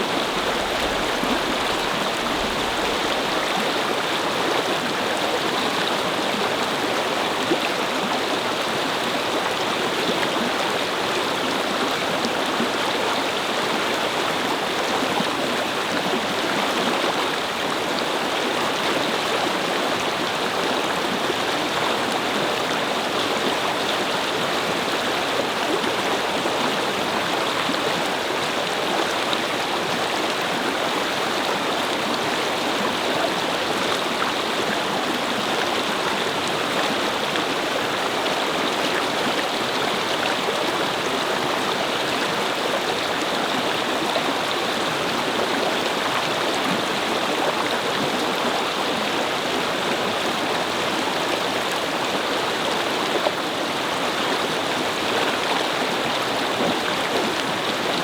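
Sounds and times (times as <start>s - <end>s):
brook babbling over stones: 0.0s - 58.0s.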